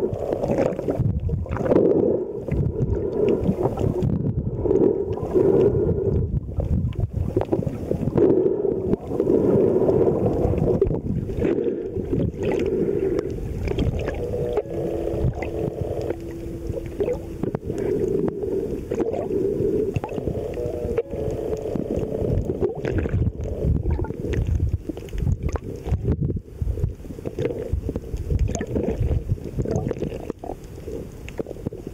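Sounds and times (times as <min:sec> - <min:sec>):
steady low hum: 0:00.0 - 0:31.9
underwater churning and sloshing: 0:00.0 - 0:31.9.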